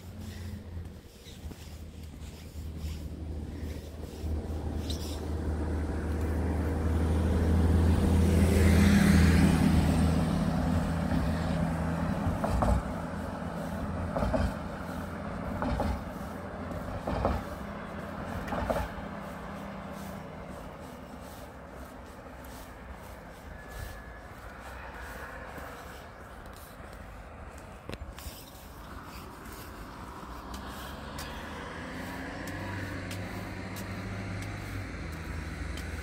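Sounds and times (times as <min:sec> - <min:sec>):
large vehicle engine passing: 0:00.0 - 0:27.6, 0:28.6 - 0:36.0.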